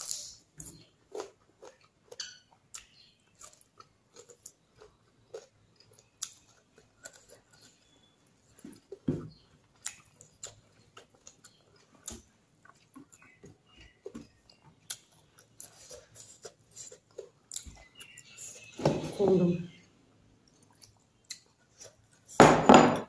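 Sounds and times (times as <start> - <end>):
person chewing food: 0.0 - 18.8, 20.4 - 22.4.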